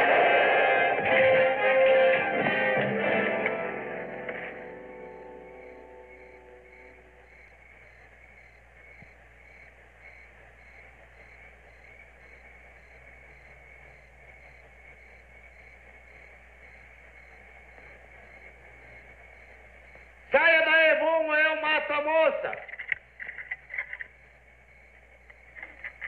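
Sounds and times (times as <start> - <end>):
crickets chirping faintly: 2.9 - 26.0.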